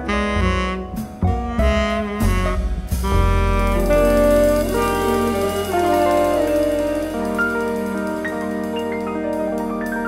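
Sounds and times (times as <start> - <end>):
live jazz ensemble playing: 0.0 - 10.0.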